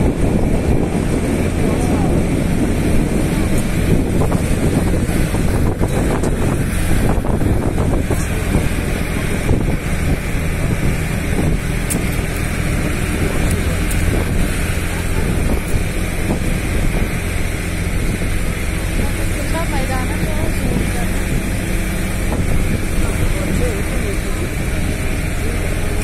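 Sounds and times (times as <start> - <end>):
vehicle driving on gravel road: 0.0 - 26.0
wind buffeting microphone: 0.0 - 26.0.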